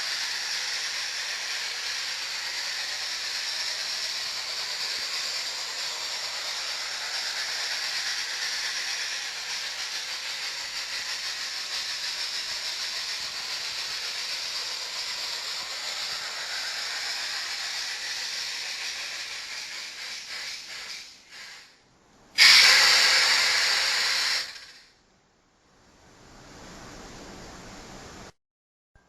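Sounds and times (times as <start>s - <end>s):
steam hiss: 0.0s - 21.8s, 22.4s - 24.9s.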